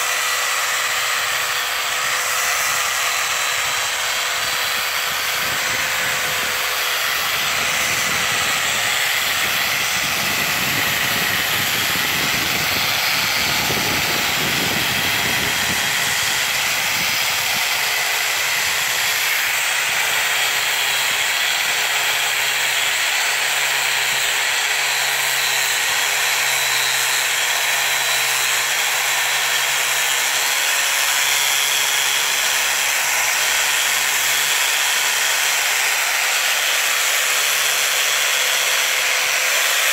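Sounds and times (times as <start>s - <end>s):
angle grinder motor whine: 0.0s - 39.9s
sanding pad hissing on wood: 0.0s - 39.9s.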